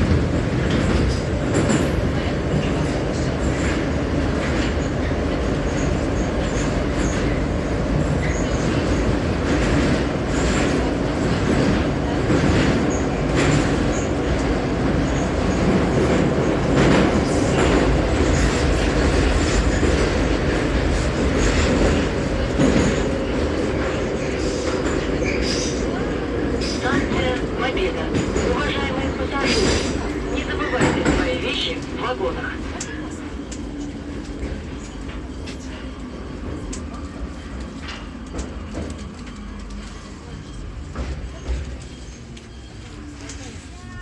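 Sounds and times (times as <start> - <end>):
metro train rumble: 0.0 - 44.0.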